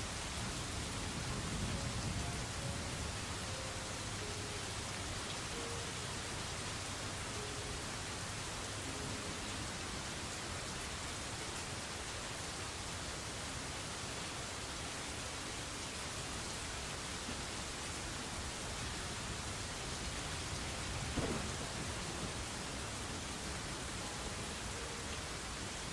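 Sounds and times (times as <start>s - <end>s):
rain: 0.0s - 25.9s.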